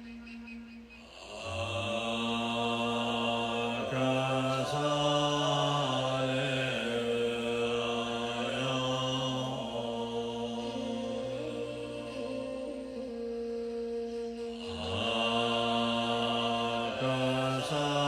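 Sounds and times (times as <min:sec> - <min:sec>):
man chanting in held notes: 0:00.9 - 0:18.0.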